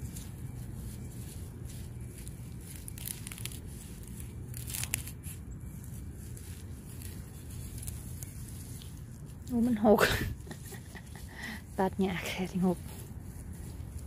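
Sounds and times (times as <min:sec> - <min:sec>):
knife cutting plants: 0:00.0 - 0:14.0
leaves and stems rustling and tearing: 0:00.0 - 0:14.0
steady low hum: 0:00.0 - 0:14.0.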